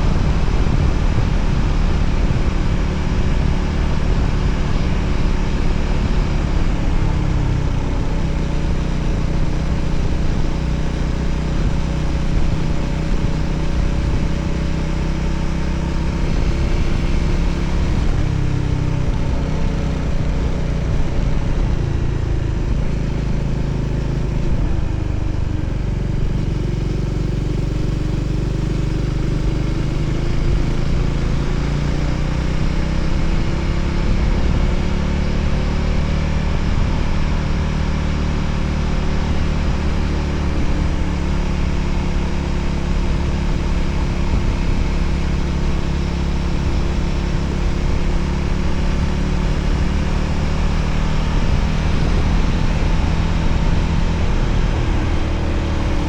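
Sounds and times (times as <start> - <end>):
motorcycle engine running: 0.0 - 56.0
steady rushing noise: 0.0 - 56.0.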